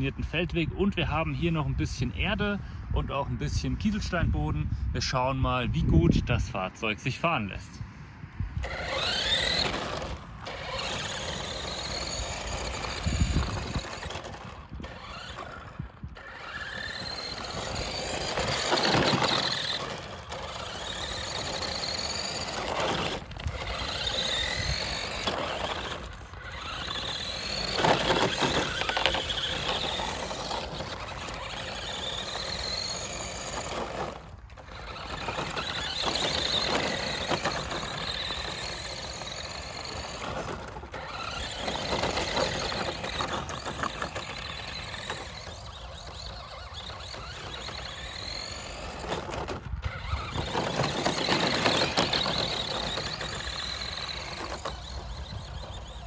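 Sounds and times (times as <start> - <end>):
rc car electric motor whining: 8.6 - 56.0.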